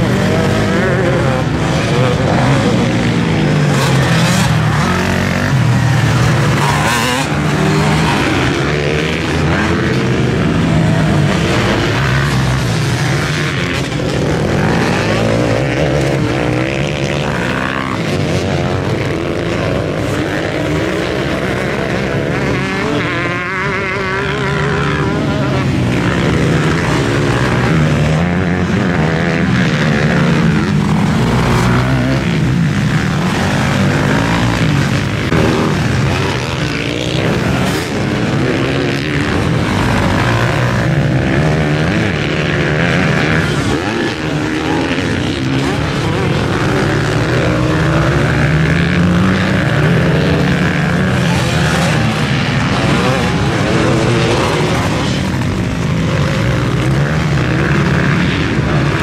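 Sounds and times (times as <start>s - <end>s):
engine revving: 0.0s - 59.0s.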